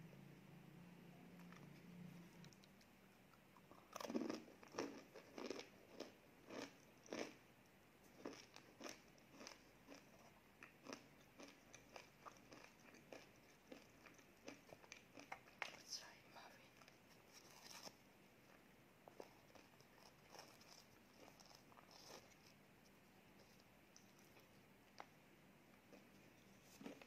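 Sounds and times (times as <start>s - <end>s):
cookie crunching and chewing: 2.4s - 15.9s, 16.7s - 25.1s, 25.8s - 27.0s.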